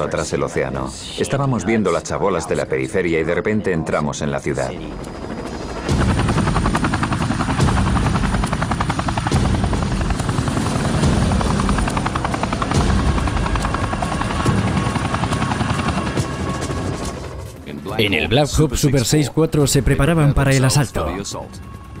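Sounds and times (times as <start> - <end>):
helicopter engine noise: 0.0 - 22.0
helicopter rotor chopping: 0.0 - 22.0.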